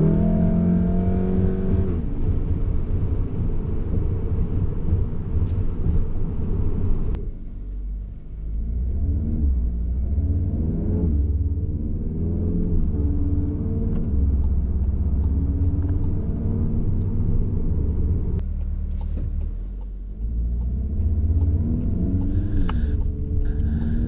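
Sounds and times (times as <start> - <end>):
car engine accelerating through gears: 0.0 - 24.0.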